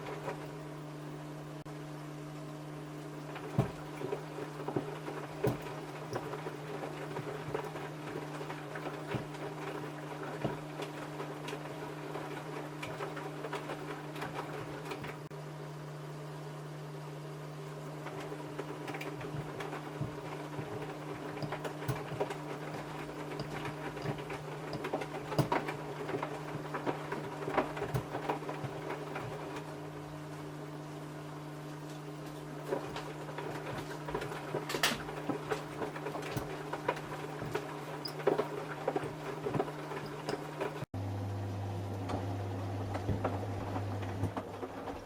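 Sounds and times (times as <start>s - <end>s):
washing machine motor hum: 0.0s - 45.0s.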